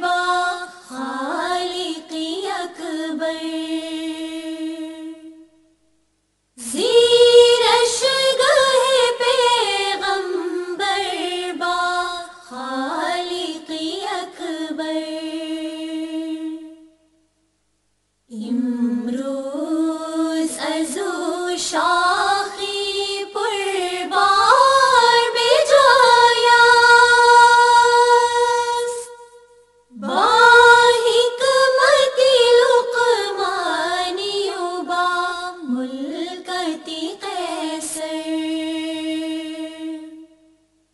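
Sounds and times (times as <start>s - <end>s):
woman singing a hymn: 0.0s - 5.4s, 6.6s - 16.8s, 18.3s - 29.2s, 30.0s - 40.2s.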